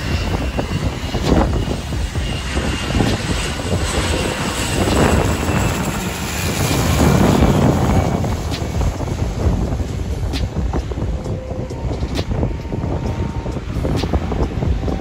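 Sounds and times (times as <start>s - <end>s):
propeller aircraft engine running: 0.0s - 15.0s
wind noise on microphone: 0.0s - 15.0s.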